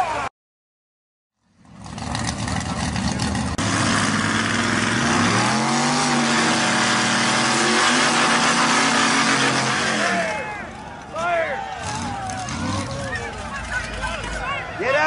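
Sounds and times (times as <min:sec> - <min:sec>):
truck engine revving under load: 0:01.6 - 0:11.0, 0:11.7 - 0:14.5.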